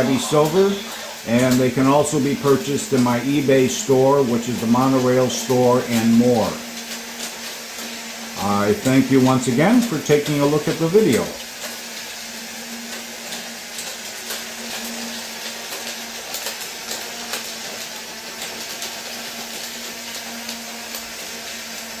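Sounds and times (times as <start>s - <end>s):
toy train motors humming: 0.0s - 22.0s.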